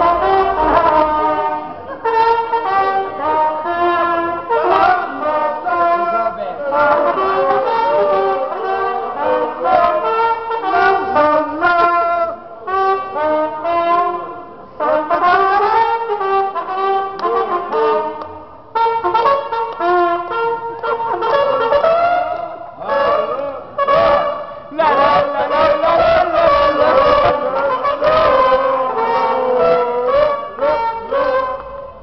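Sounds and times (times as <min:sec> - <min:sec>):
trumpet playing a melody: 0:00.0 - 0:32.0.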